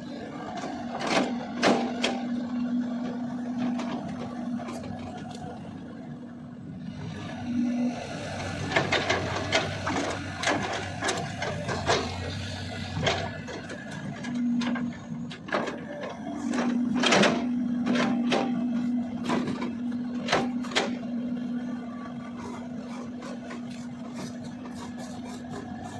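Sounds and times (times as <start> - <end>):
excavator engine running: 0.0 - 25.9.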